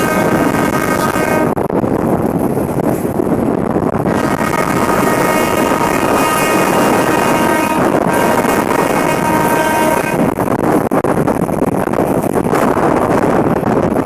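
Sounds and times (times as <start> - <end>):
train rumble and wind noise: 0.0 - 14.0.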